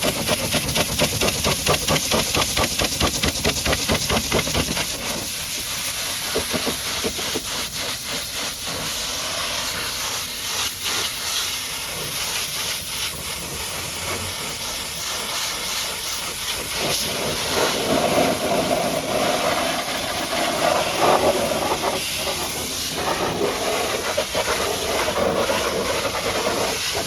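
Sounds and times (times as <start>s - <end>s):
high-pressure water jet hissing: 0.0s - 27.0s.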